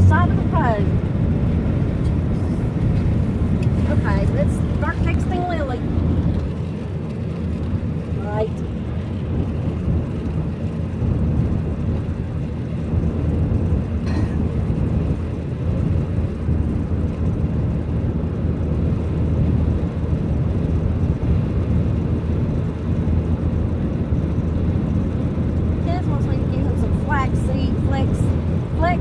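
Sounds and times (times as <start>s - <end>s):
road and engine rumble in car: 0.0s - 29.0s.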